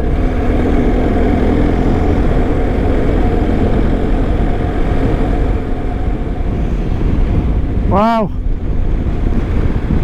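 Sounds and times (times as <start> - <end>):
motorcycle engine cruising: 0.0 - 10.0
wind rushing on microphone: 0.0 - 10.0.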